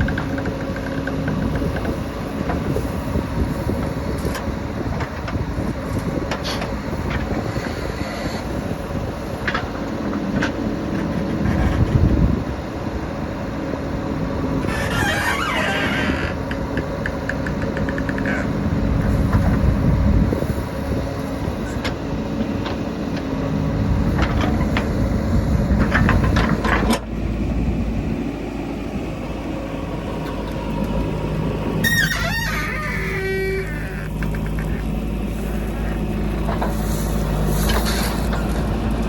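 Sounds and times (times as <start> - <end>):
loader clattering and rattling: 0.0 - 12.3, 14.6 - 20.1, 21.6 - 28.3, 29.0 - 39.0
diesel engine running under load: 0.0 - 39.0.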